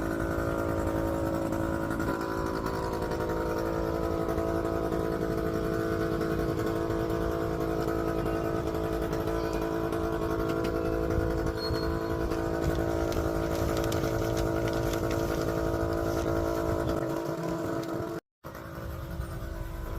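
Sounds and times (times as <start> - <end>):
small engine running: 0.0 - 19.9.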